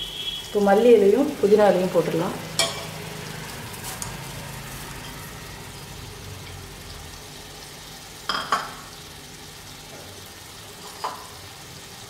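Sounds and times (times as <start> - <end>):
faint sizzle of cooking: 0.0 - 12.0.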